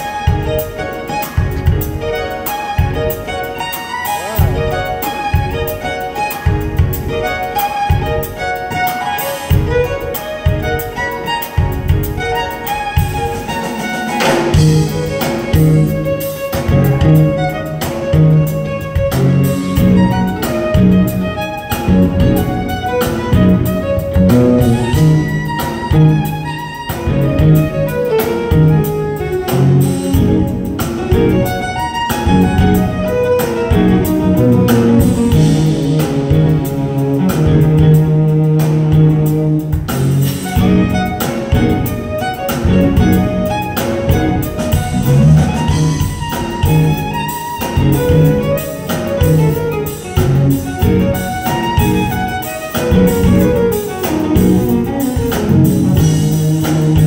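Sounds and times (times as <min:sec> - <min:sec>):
fiddle playing rapid notes: 0:00.0 - 0:57.0
strummed string instrument: 0:00.0 - 0:57.0.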